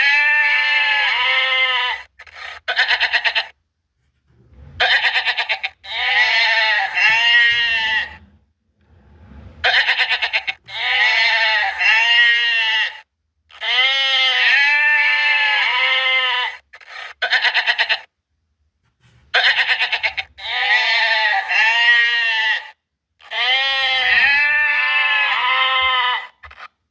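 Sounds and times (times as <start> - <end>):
goats bleating: 0.0 - 3.6, 4.8 - 8.2, 9.6 - 18.1, 19.4 - 26.7.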